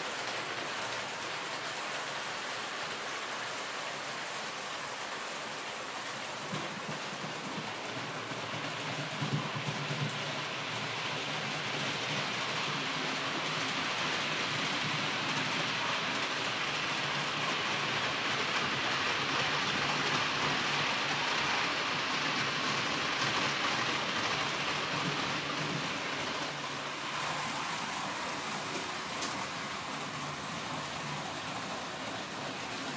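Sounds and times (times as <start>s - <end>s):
model train wheels rolling on rails: 0.0s - 32.9s.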